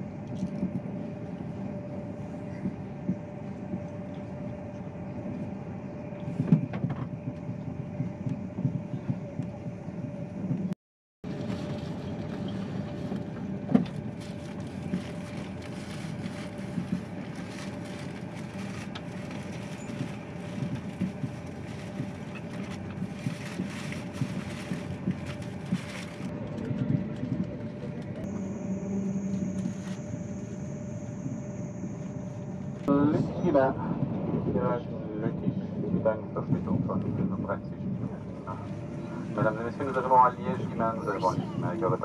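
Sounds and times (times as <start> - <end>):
train running rumble: 0.0 - 42.0.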